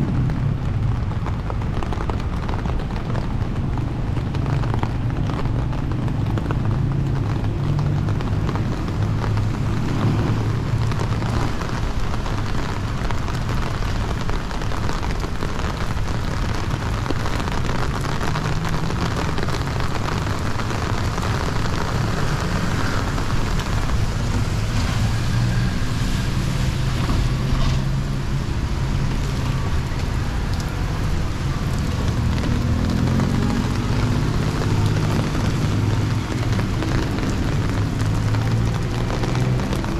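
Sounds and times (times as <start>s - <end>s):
city street ambience: 0.0s - 39.9s.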